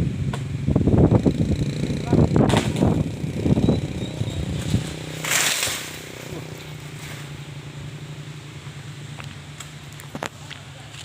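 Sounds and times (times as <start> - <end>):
chainsaw engine idling: 0.8 - 11.0.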